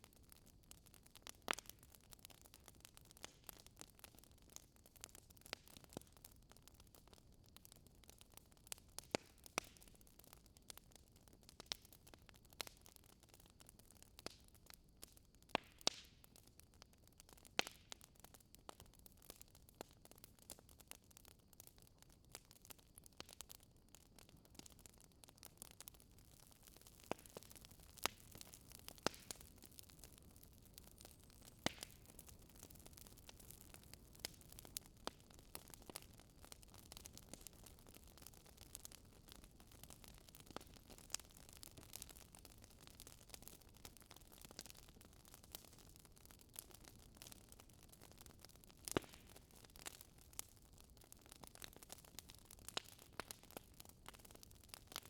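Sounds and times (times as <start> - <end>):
faint wood fire crackling: 0.0 - 55.0.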